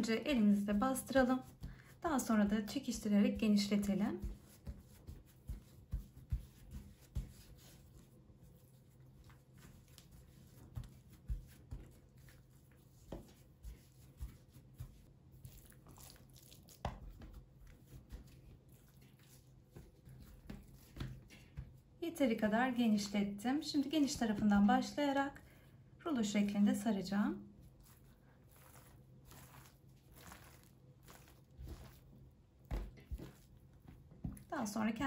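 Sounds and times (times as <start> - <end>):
hands pressing dough: 0.0 - 22.0, 27.5 - 35.0.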